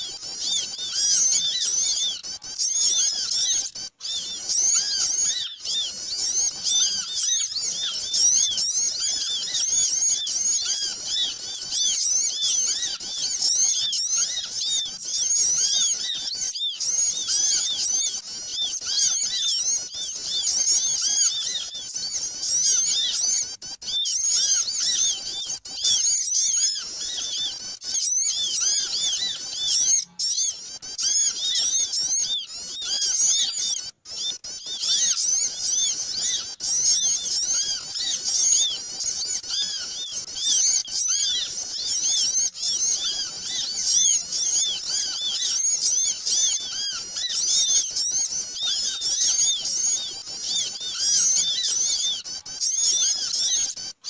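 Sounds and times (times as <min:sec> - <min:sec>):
chorus of small birds chirping: 0:00.0 - 0:54.0.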